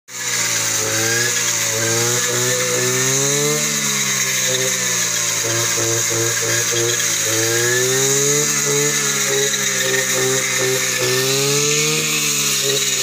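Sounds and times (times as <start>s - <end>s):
brush cutter running: 0.1s - 13.0s.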